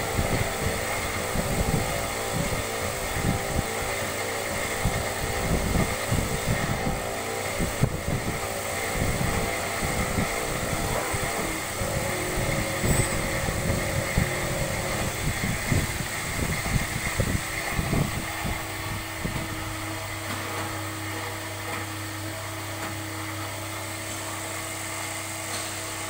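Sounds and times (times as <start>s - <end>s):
lathe whining: 0.0s - 26.0s.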